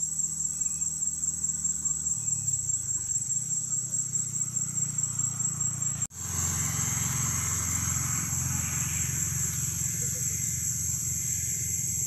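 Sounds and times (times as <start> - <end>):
distant motor vehicle hum: 0.0 - 12.0
insect chorus drone: 0.0 - 12.0.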